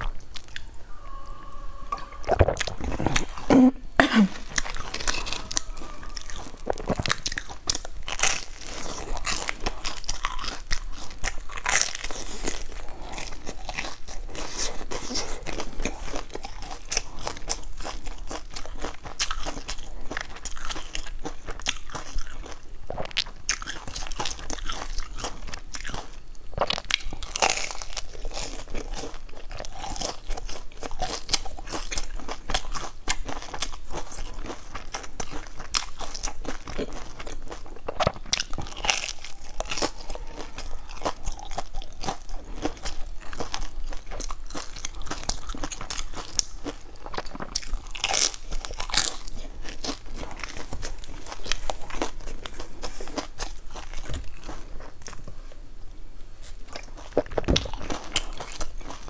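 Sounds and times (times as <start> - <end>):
crunchy bread chewing: 0.0 - 59.0.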